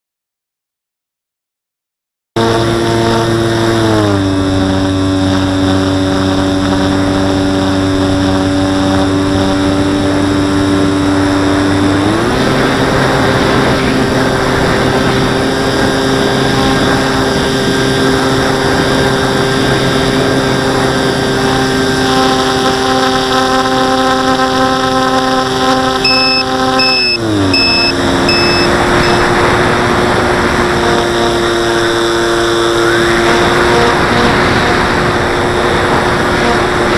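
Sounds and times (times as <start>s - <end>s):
model airplane motor whine: 2.4s - 36.9s.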